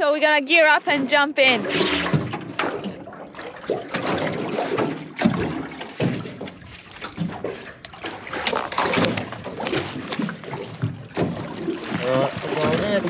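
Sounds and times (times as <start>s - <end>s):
diving gear knocking and rustling: 0.4s - 13.0s.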